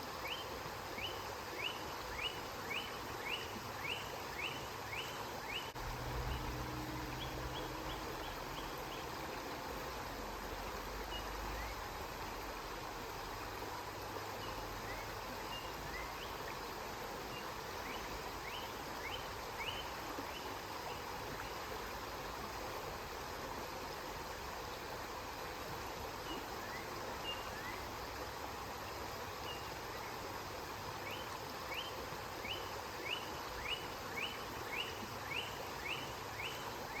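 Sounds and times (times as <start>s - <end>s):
river water flowing: 0.0s - 37.0s.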